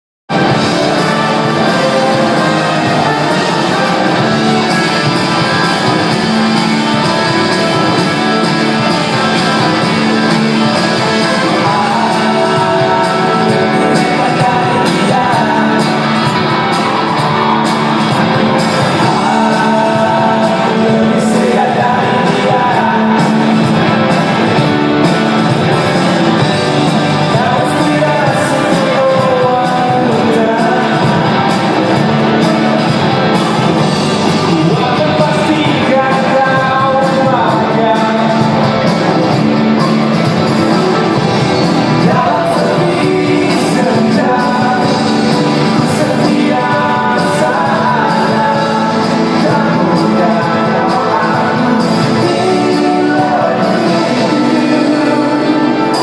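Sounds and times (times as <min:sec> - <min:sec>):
guitars: 0:00.3 - 0:56.0
live rock band playing: 0:00.3 - 0:56.0
person singing: 0:00.3 - 0:56.0.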